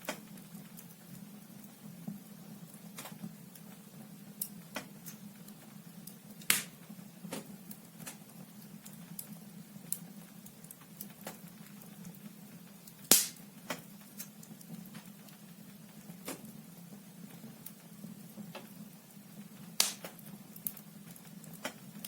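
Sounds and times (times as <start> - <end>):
logs crackling in fireplace: 0.0 - 22.0.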